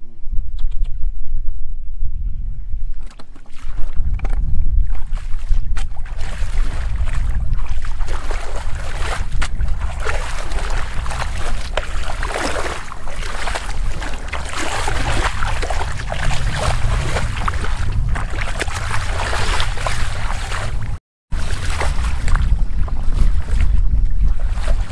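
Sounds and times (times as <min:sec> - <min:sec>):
wind buffeting microphone: 0:00.0 - 0:24.9
muddy water splashing: 0:02.9 - 0:24.9.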